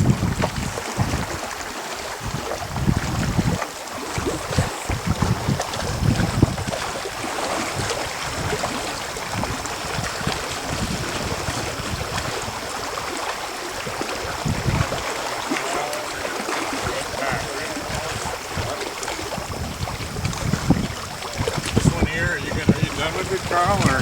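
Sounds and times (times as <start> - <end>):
water splashing and lapping: 0.0 - 24.0
wind buffeting microphone: 0.0 - 24.0.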